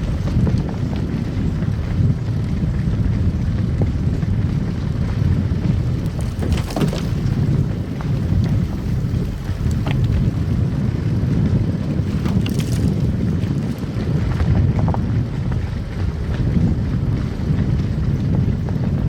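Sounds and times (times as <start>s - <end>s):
car tyres and engine rumble: 0.0s - 19.0s
light crackles: 0.0s - 19.0s.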